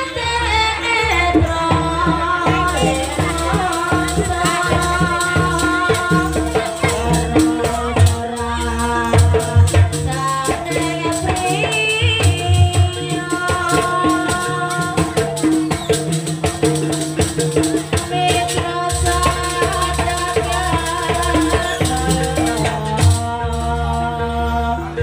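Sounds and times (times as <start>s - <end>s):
drums beating: 0.0s - 24.2s.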